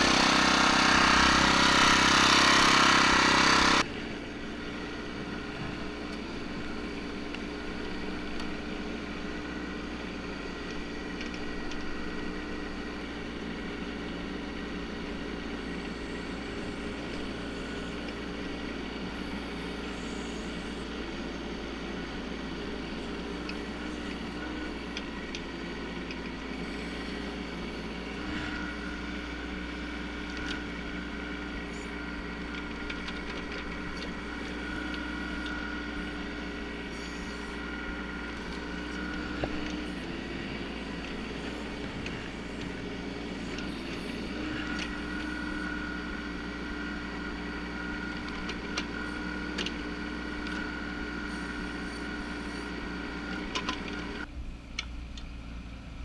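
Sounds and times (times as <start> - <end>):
mini excavator diesel engine droning: 0.0 - 56.0.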